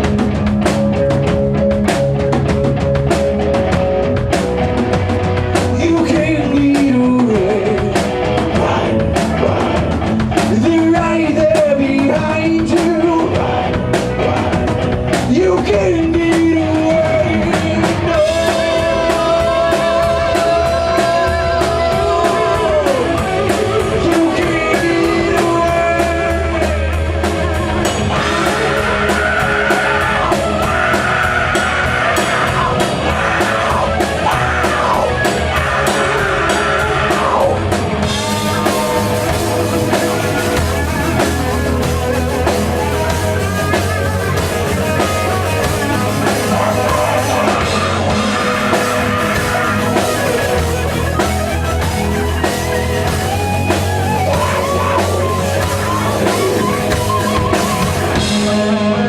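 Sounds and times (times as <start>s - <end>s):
rock band playing live: 0.0s - 59.0s
sliding lead guitar melody: 0.0s - 59.0s.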